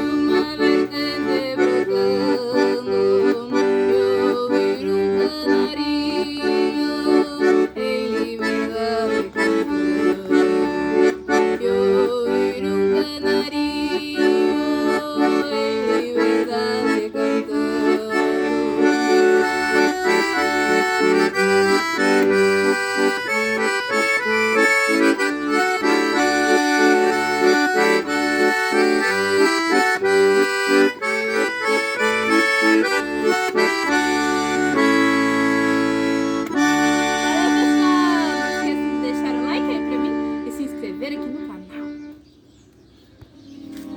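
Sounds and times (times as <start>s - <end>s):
instrumental background music: 0.0s - 42.4s.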